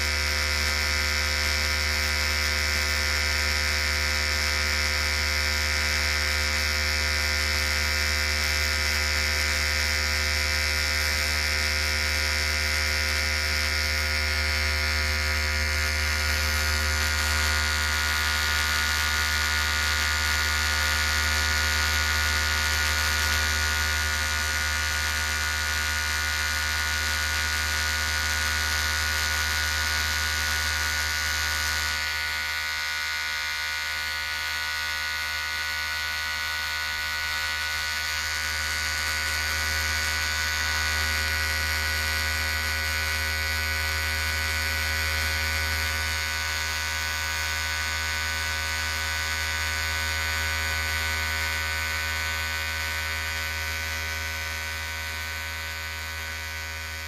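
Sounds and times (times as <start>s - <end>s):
electric hair clippers buzzing: 0.0s - 57.0s.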